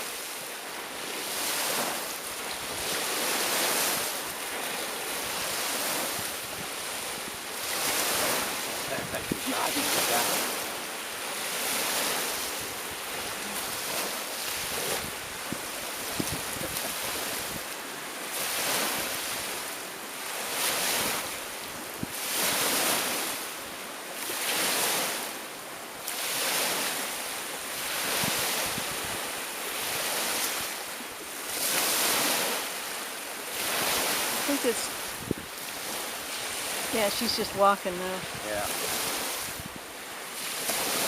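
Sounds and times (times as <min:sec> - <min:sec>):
surf: 0:00.0 - 0:41.0
wind: 0:00.0 - 0:41.0.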